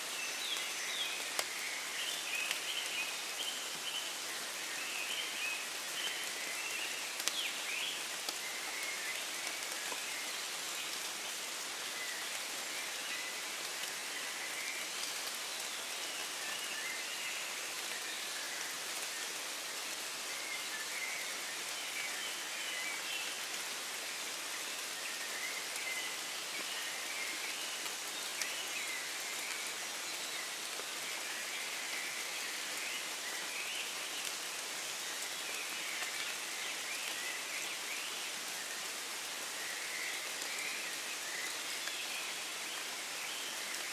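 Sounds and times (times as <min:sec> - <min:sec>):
rain falling in woodland: 0:00.0 - 0:43.9.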